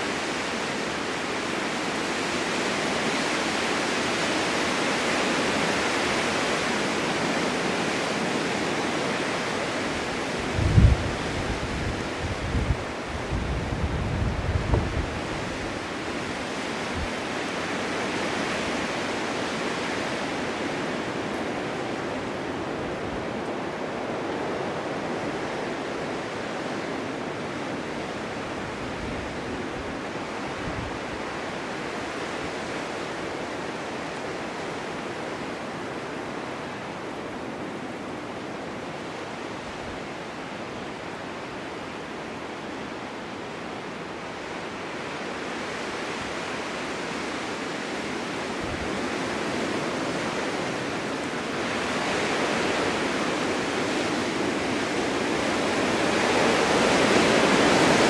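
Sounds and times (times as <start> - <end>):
wind blowing snow: 0.0 - 58.0.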